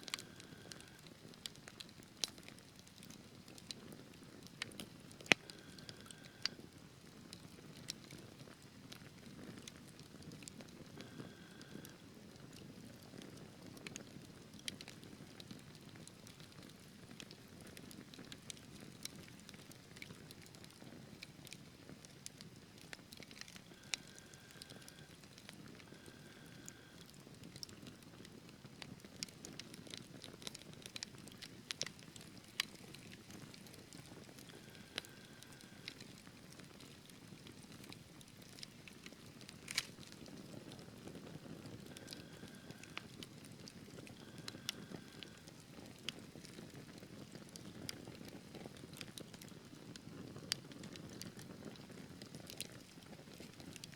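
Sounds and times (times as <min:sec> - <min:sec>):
fire burning: 0:00.0 - 0:53.9
fire crackling and popping: 0:00.0 - 0:53.9.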